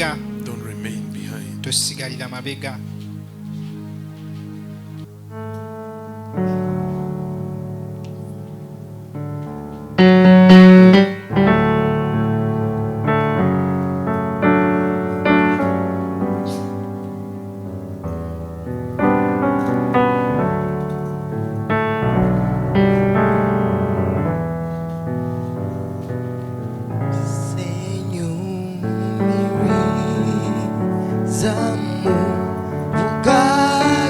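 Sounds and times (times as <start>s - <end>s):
slow piano chords: 0.0s - 34.0s.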